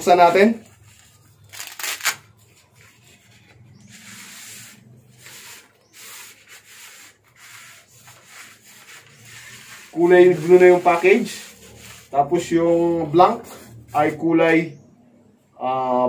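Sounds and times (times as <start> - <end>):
cloth rustling: 0.1 - 14.2
fabric rubbing along rod: 0.1 - 14.7.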